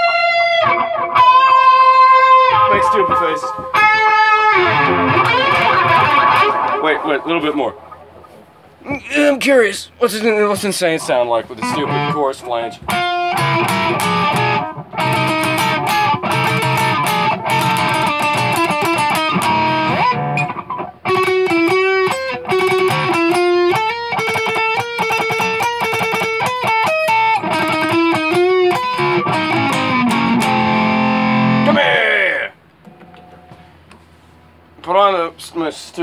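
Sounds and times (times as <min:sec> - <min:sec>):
electric guitar lead runs: 0:00.0 - 0:08.9, 0:11.6 - 0:31.8.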